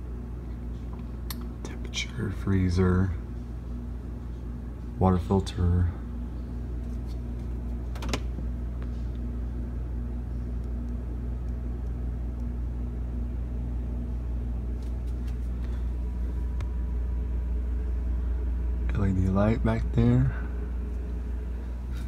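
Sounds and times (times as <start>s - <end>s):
refrigerator humming: 0.0s - 22.0s.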